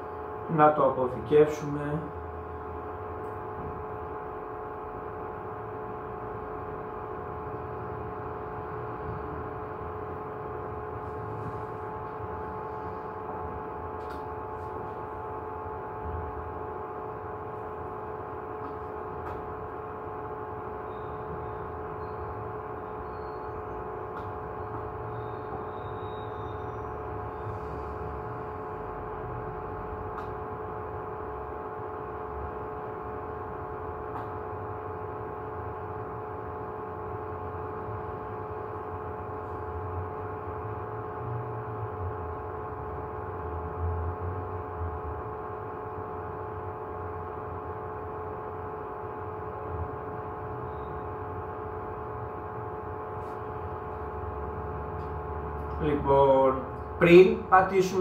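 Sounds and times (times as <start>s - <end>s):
machine hum: 0.0s - 58.0s.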